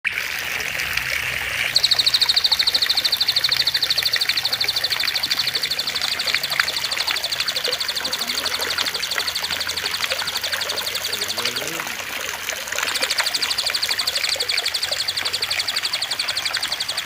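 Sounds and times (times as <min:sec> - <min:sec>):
water trickling: 0:00.1 - 0:17.0
bird trilling high notes: 0:01.7 - 0:12.0, 0:12.6 - 0:17.0.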